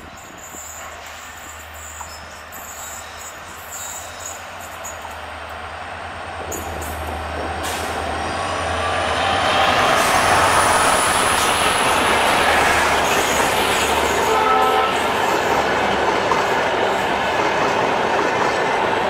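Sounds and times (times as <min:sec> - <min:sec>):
diesel locomotive engine hum: 0:00.0 - 0:19.0
train wheels rushing on rails: 0:00.0 - 0:19.0.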